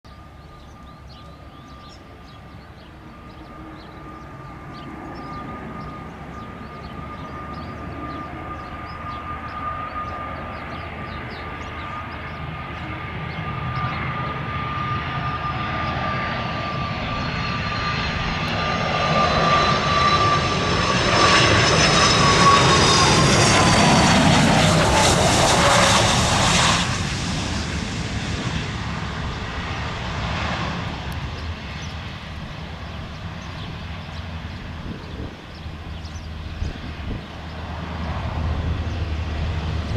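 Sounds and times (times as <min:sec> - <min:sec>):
jet engines whining on approach: 0:00.1 - 0:39.9.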